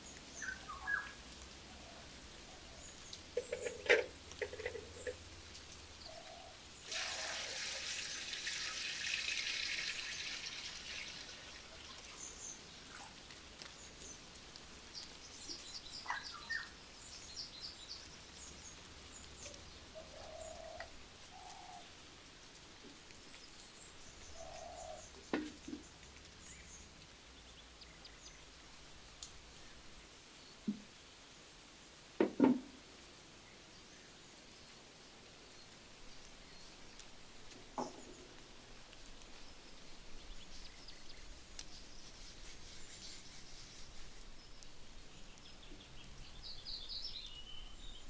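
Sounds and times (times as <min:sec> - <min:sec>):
small birds chirping: 0:00.0 - 0:06.9, 0:07.9 - 0:31.1, 0:33.4 - 0:48.0.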